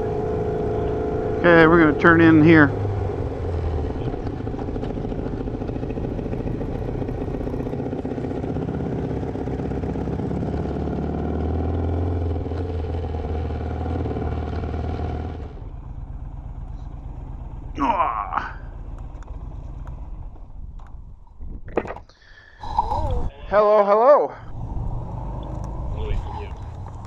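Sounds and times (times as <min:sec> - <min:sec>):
motorcycle engine running: 0:00.0 - 0:21.6, 0:24.5 - 0:27.0.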